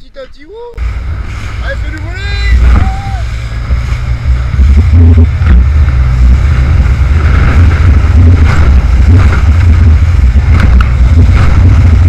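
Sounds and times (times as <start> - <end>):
rushing water: 0.7 - 12.0
outboard motor: 0.8 - 12.0
wind rumble on microphone: 0.8 - 12.0.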